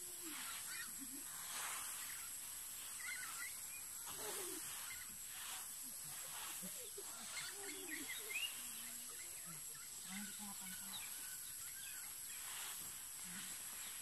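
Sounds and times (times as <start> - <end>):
steady high-pitched hiss: 0.0 - 14.0
short bird chirps: 0.2 - 12.8.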